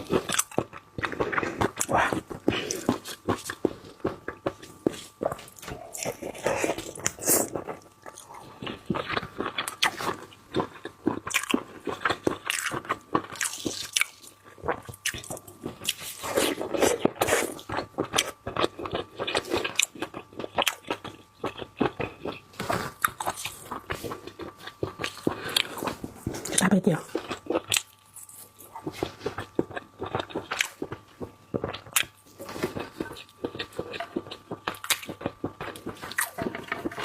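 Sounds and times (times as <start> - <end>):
crunchy chewing of seafood: 0.0 - 37.0.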